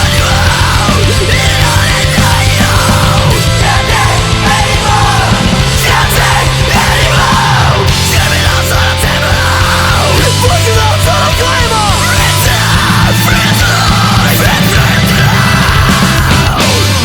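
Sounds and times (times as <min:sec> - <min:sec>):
person yelling vocals: 0:00.0 - 0:16.8
distorted guitars: 0:00.0 - 0:17.0
drums: 0:00.0 - 0:17.0
heavy metal music: 0:00.0 - 0:17.0.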